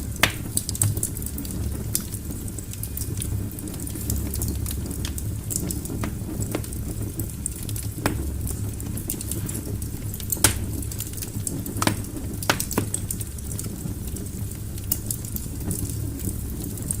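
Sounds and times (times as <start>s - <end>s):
logs crackling and popping: 0.0s - 17.0s
low rumble of flames: 0.0s - 17.0s.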